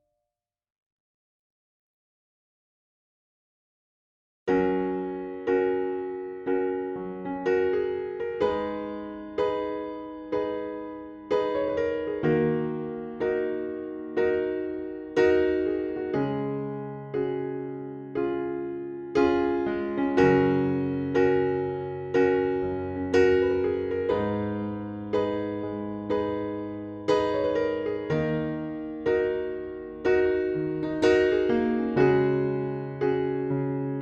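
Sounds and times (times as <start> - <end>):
electric piano chords: 4.5 - 34.0.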